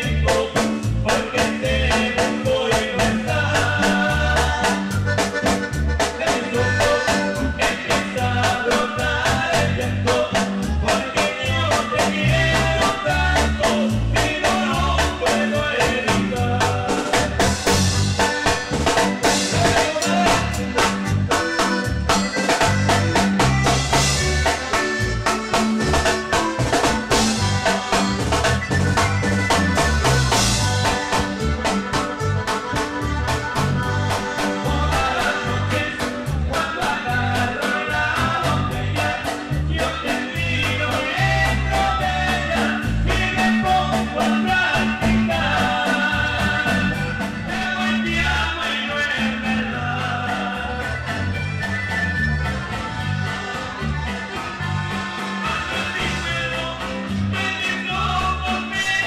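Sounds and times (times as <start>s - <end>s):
latin dance band playing: 0.0s - 59.0s.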